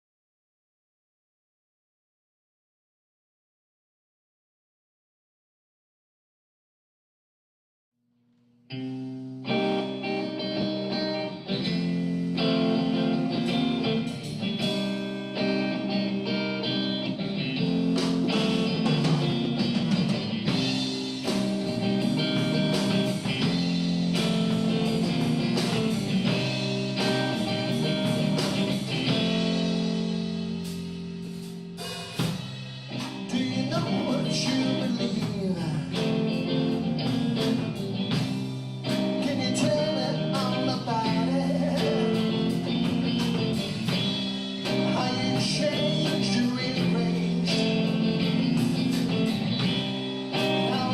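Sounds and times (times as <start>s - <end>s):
blues-rock guitar: 8.7s - 50.9s
drum kit: 9.0s - 50.9s.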